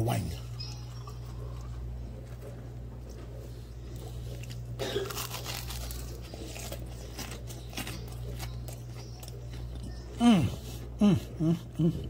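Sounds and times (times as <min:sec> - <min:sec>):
crunching fried chicken: 0:00.4 - 0:10.2.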